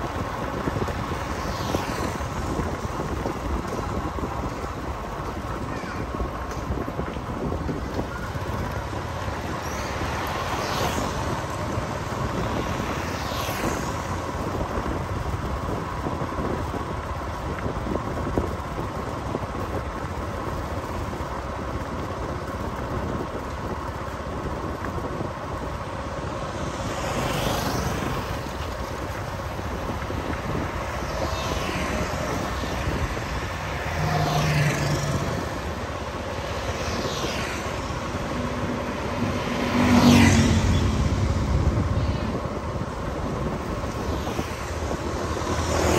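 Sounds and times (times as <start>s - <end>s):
road and wind noise: 0.0s - 45.9s
vehicles passing by: 0.0s - 45.9s.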